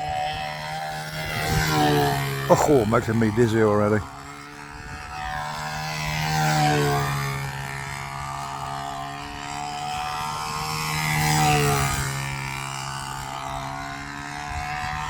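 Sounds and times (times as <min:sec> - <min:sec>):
model aircraft motor and propeller: 0:00.0 - 0:15.0.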